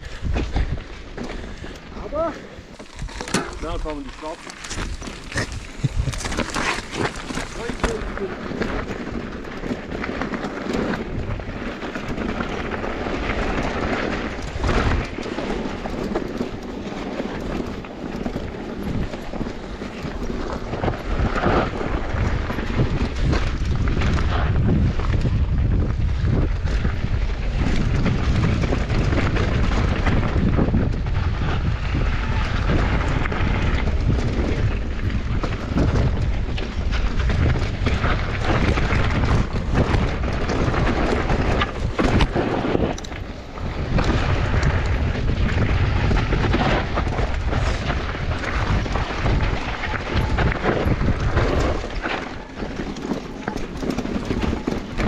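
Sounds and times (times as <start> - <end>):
bike rattling: 0.0 - 55.0
tyres rolling over dirt: 0.0 - 55.0
wind buffeting microphone: 0.0 - 55.0.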